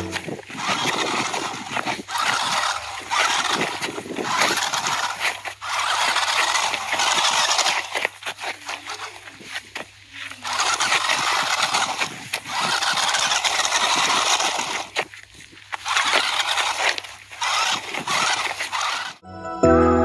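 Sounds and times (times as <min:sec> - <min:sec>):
toy motor and gears whirring: 0:00.0 - 0:19.2
tyres crunching over soil: 0:00.0 - 0:19.2.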